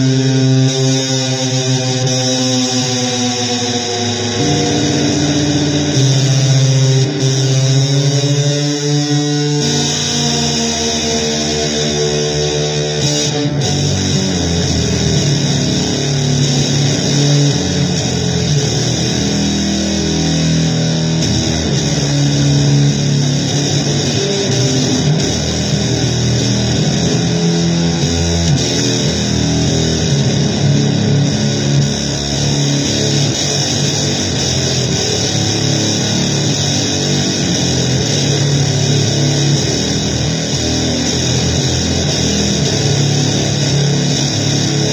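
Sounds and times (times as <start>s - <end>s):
loud noise-blues guitar music: 0.0s - 44.9s.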